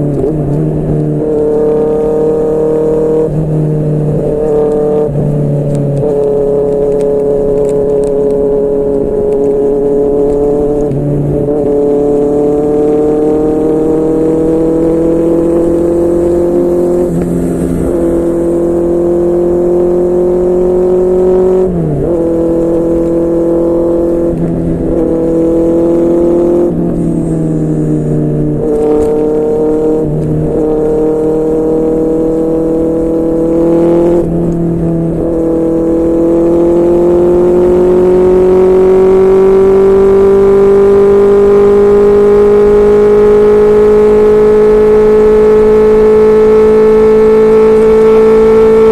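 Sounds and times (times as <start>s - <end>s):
motorcycle engine gear changes: 4.4s - 21.2s, 22.2s - 48.9s.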